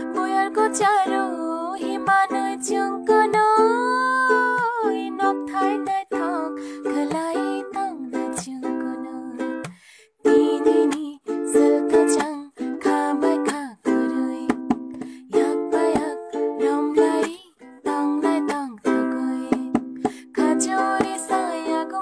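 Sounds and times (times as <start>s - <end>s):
ukulele strumming chords: 0.0s - 22.0s.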